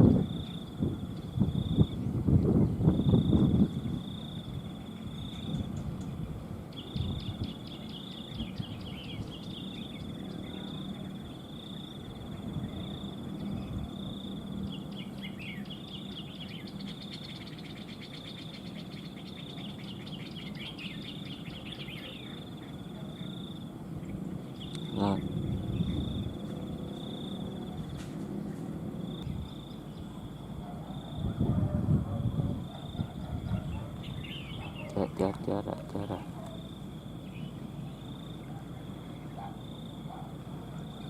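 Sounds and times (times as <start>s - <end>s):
birds chattering and whistling: 0.0s - 41.0s.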